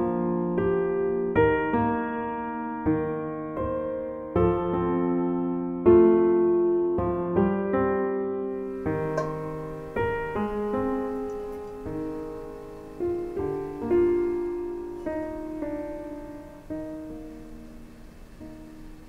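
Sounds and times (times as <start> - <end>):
gentle solo piano music: 0.0 - 19.0.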